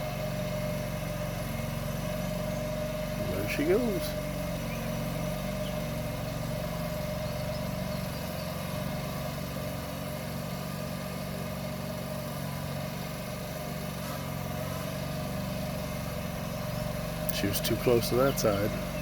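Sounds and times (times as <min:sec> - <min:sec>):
tractor engine drone: 0:00.0 - 0:19.0.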